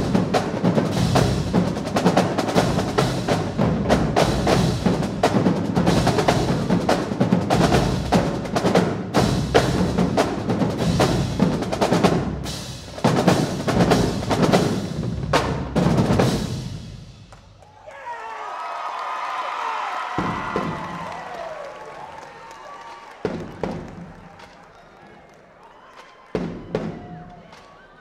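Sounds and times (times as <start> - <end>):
marching drumline playing: 0.0 - 17.6, 20.1 - 22.2, 22.8 - 24.6, 26.3 - 27.8.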